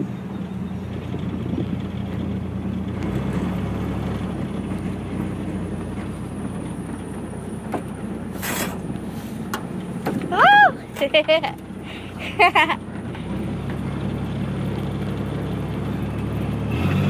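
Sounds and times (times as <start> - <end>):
road and wind noise: 0.0 - 17.0
truck engine hum: 0.0 - 17.0.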